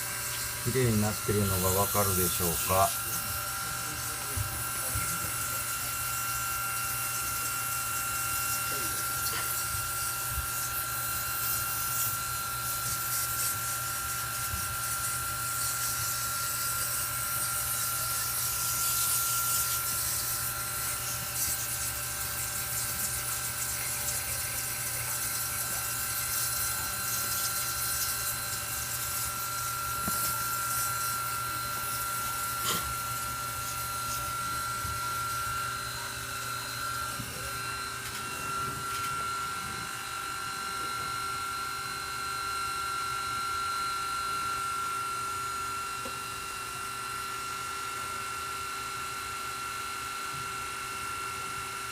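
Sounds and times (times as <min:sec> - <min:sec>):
pump whining: 0:00.0 - 0:51.8.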